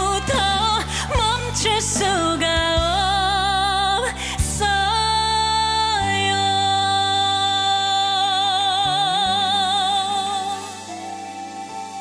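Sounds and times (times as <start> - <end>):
woman singing with vibrato: 0.0 - 12.0.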